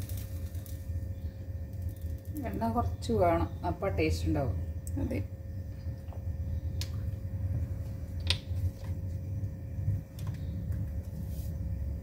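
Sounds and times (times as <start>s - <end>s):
faint steady hum: 0.0s - 12.0s
gas burner rumble: 0.0s - 12.0s.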